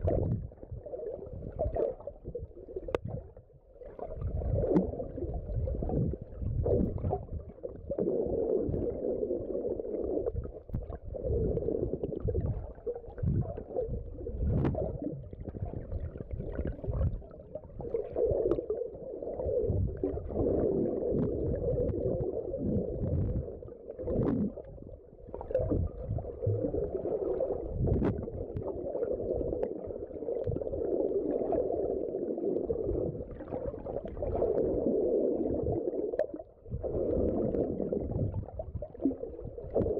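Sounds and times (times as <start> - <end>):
underwater rumbling and swishing: 0.0 - 39.9.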